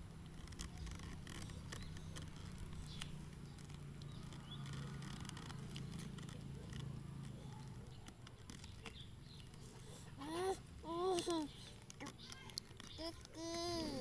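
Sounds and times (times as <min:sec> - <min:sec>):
plastic wrap clicks and crinkles: 0:00.2 - 0:09.6, 0:11.0 - 0:14.0.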